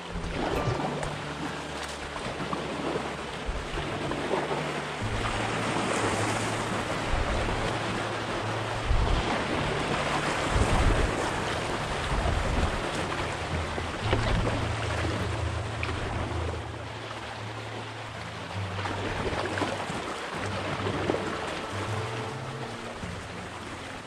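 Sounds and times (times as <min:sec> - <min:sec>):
river water rushing and babbling: 0:00.0 - 0:24.0.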